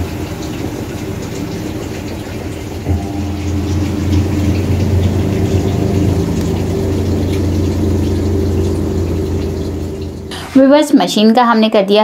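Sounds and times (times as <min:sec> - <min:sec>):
washing machine motor hum: 0:00.0 - 0:12.0.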